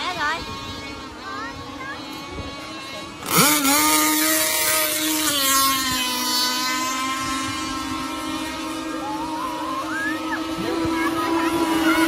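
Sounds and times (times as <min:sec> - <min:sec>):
outboard engine at high revs: 0:00.0 - 0:12.0.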